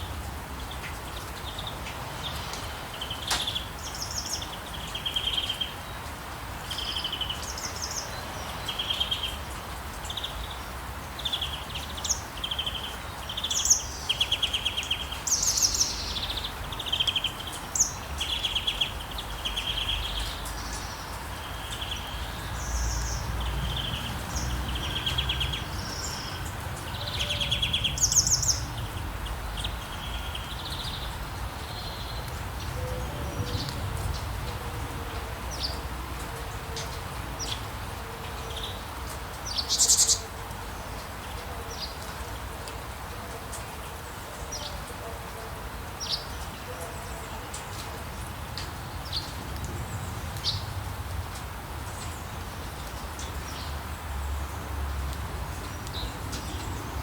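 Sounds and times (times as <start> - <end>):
light rain hiss: 0.0 - 57.0
songbirds chirping and trilling: 0.0 - 57.0.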